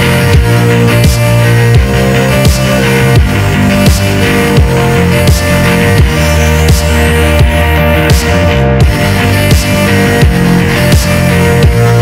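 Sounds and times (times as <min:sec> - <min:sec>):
deep sustained bass line: 0:00.0 - 0:12.0.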